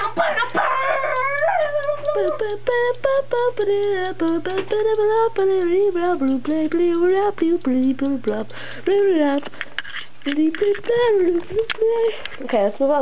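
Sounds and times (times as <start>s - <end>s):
steady low hum: 0.0s - 13.0s
woman singing nonsense syllables: 0.5s - 9.5s, 10.2s - 13.0s.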